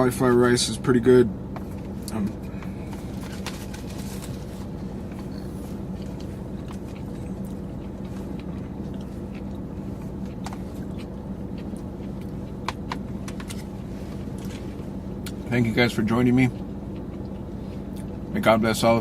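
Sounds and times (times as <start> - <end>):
steady low hum: 0.0 - 19.0
person chewing: 1.6 - 15.4, 16.5 - 18.2.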